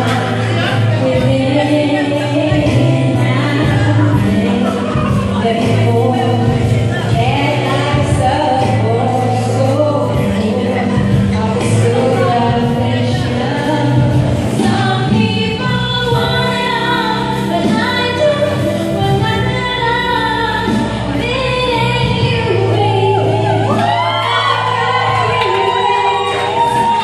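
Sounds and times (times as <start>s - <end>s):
karaoke backing track: 0.0s - 27.0s
woman singing into microphone: 0.0s - 27.0s.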